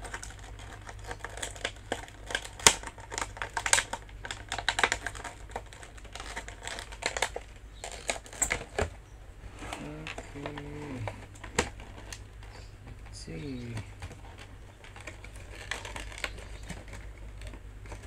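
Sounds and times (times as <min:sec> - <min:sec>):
toy packaging crinkling: 0:00.0 - 0:08.9, 0:09.7 - 0:18.0
low steady hum: 0:00.0 - 0:18.0.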